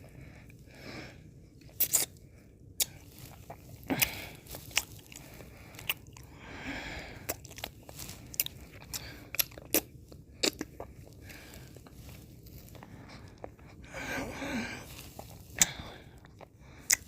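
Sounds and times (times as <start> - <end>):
mouth eating ice cream: 1.6 - 17.0.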